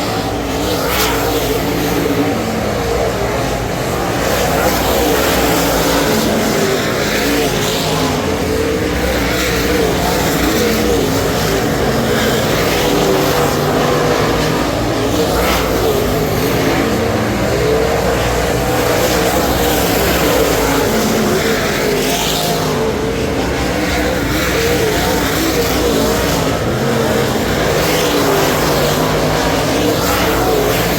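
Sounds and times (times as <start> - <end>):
racing engine running hard: 0.0 - 30.9.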